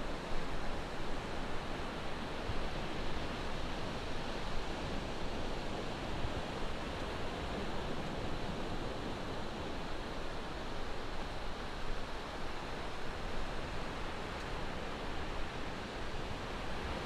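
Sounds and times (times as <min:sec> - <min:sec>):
ocean surf on a beach: 0:00.0 - 0:17.0.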